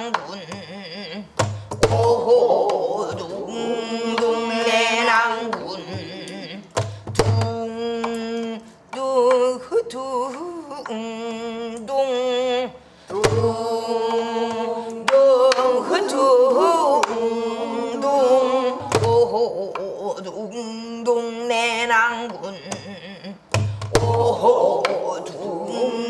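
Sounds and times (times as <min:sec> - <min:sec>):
woman singing with wide vibrato: 0:00.0 - 0:26.0.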